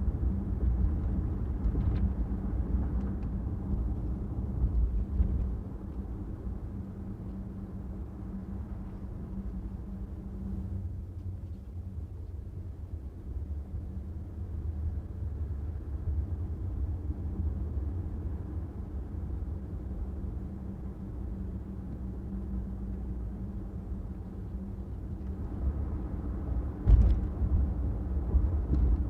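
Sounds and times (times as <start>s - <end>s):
car driving on street: 0.0s - 29.0s.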